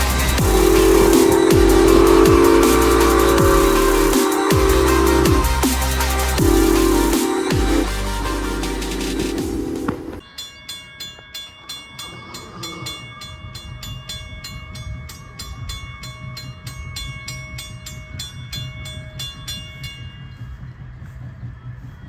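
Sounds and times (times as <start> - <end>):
low train rumble: 0.0 - 10.2, 13.4 - 22.0
railroad bell ringing: 0.0 - 21.2.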